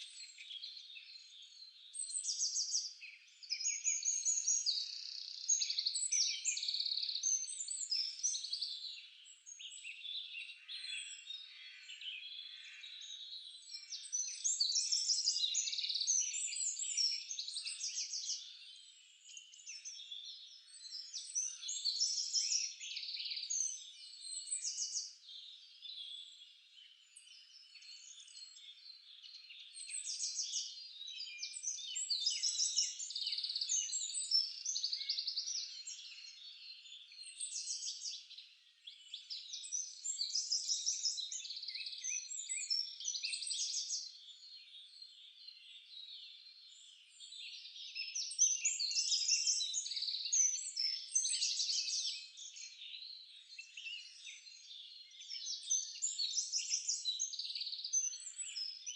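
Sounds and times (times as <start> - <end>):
songbirds singing and calling: 0.0 - 58.9.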